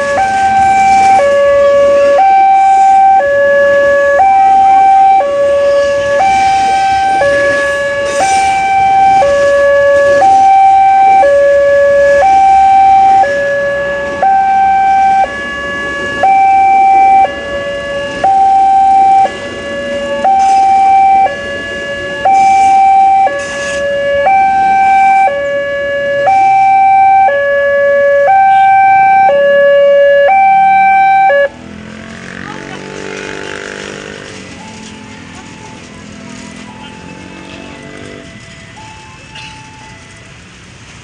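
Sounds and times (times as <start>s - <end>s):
two-tone hi-lo siren: 0.0s - 32.7s, 33.5s - 40.6s.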